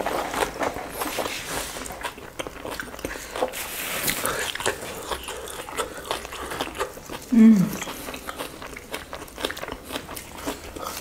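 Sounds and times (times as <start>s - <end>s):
people chewing and biting: 0.0s - 11.0s.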